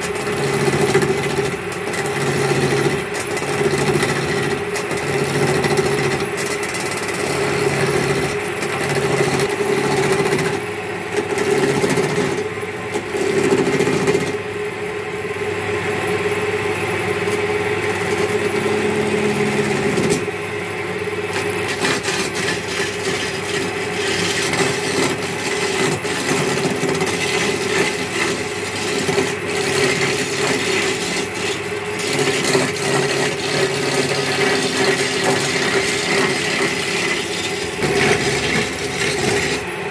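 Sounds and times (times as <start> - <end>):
chisel scraping spinning wood: 0.0 - 14.6, 16.8 - 39.9
lathe motor hum: 0.0 - 39.9.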